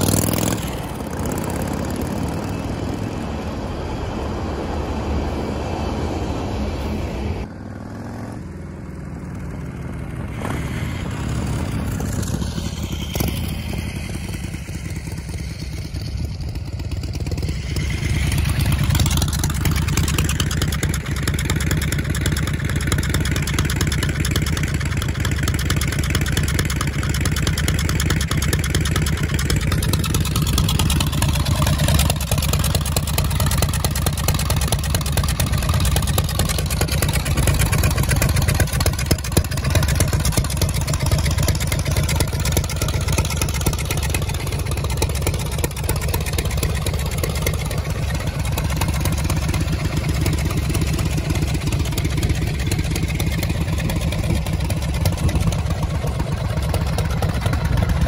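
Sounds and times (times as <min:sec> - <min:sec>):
motorcycle engine running: 0:00.0 - 0:05.6, 0:07.4 - 0:58.0.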